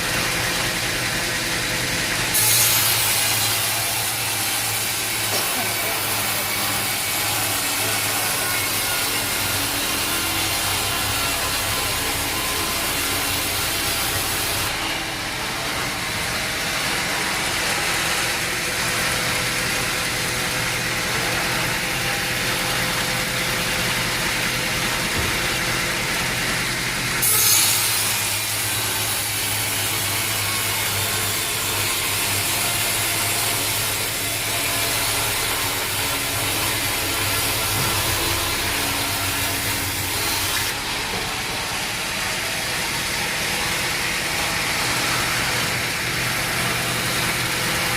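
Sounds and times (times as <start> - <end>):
saw blade cutting log: 0.0 - 47.9.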